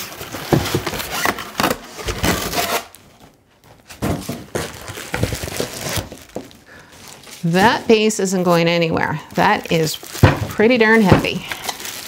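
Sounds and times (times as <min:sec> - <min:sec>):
cardboard and styrofoam scraping: 0:00.0 - 0:03.0, 0:03.9 - 0:12.0.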